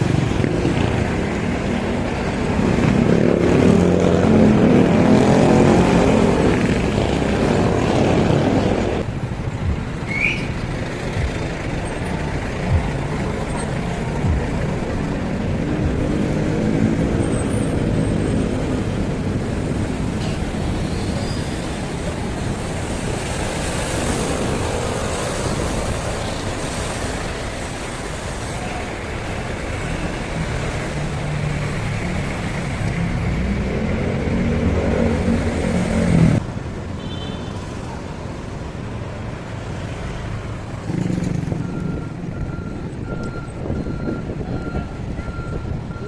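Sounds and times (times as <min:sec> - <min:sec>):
road traffic: 0:00.0 - 0:46.0.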